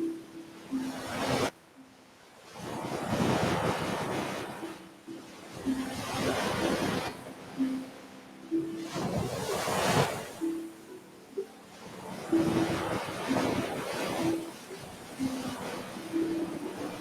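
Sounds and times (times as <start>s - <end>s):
ocean waves on a beach: 0.0s - 17.0s.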